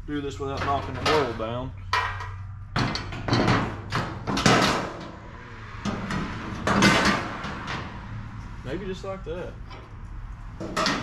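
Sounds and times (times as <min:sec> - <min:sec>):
sheet metal rattling and scraping: 0:00.3 - 0:08.6, 0:09.6 - 0:11.0.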